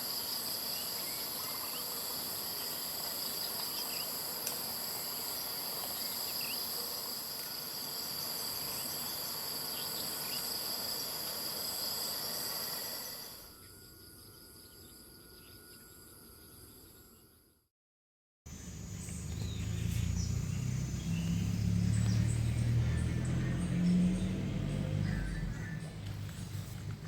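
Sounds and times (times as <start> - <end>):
insects trilling: 0.0 - 17.2, 18.5 - 26.0.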